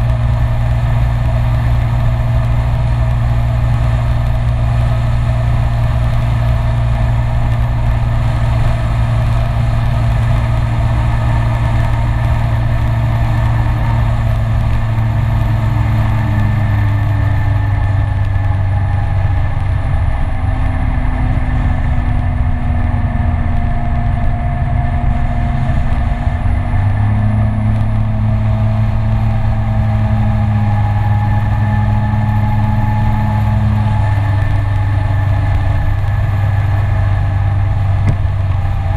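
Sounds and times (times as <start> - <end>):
scooter engine running: 0.0 - 38.9
wind rushing over microphone: 0.0 - 38.9.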